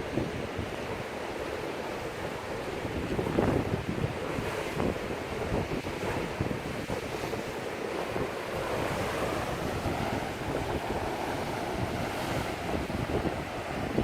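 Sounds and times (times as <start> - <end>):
waves breaking over rocks: 0.0 - 14.0
wind buffeting microphone: 0.0 - 14.0.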